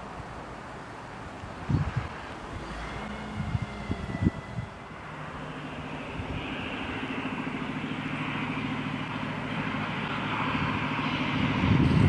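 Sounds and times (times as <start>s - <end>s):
approaching train hum and hiss: 0.0s - 12.0s.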